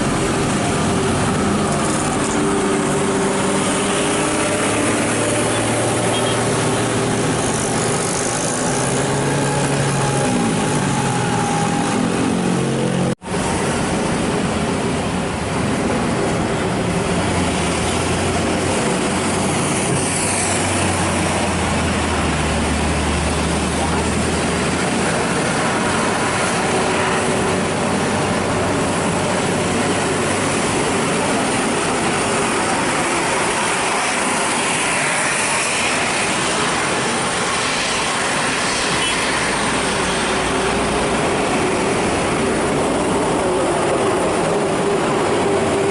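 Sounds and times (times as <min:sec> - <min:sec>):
heavy road traffic: 0:00.0 - 0:45.9.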